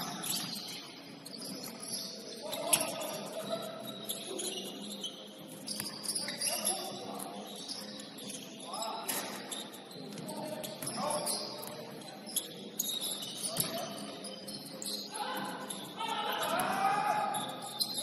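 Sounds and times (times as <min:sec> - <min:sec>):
sneaker squeaks on court: 0:00.0 - 0:16.6, 0:17.3 - 0:18.0.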